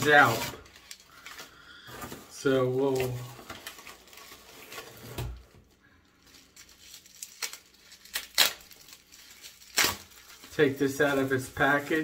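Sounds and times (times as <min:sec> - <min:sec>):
packaging rustling and tearing: 0:00.0 - 0:12.0.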